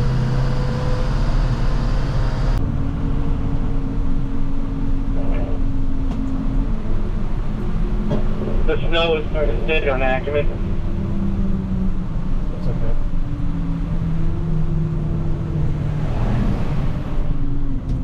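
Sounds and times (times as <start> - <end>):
truck engine running: 0.0 - 16.0
steady drone: 0.0 - 17.5
road noise: 0.0 - 18.0.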